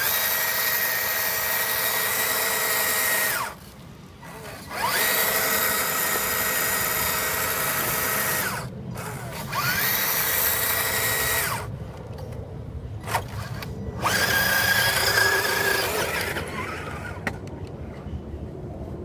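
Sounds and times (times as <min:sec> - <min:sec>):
electric motor and gears whining: 0:00.0 - 0:11.7, 0:13.0 - 0:17.5.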